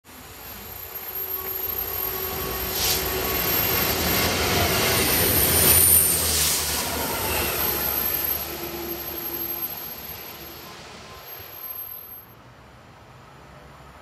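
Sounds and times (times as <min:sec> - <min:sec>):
freight train passing: 0:00.0 - 0:14.0
low locomotive engine hum: 0:00.1 - 0:14.0.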